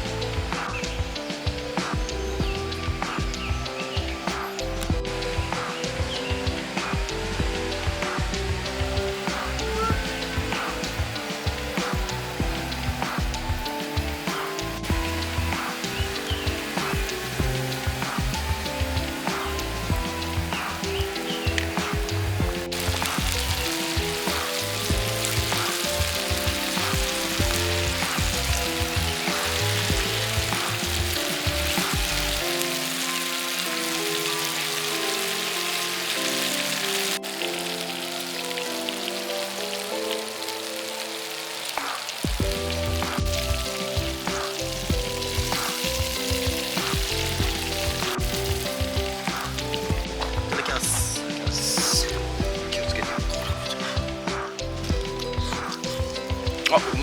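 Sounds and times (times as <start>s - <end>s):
background music: 0.0s - 57.0s
food frying with sizzle and pops: 0.0s - 57.0s.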